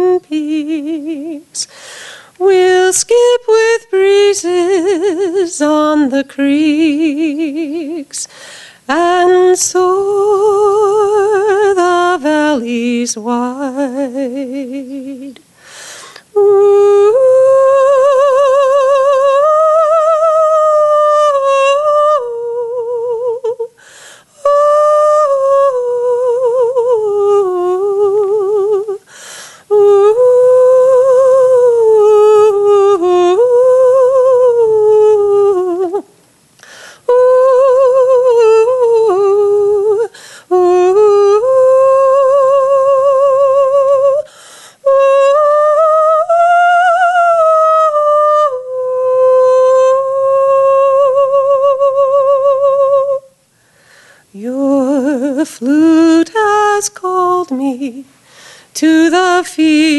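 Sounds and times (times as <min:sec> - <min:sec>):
woman singing wordless melody: 0:00.0 - 0:59.9.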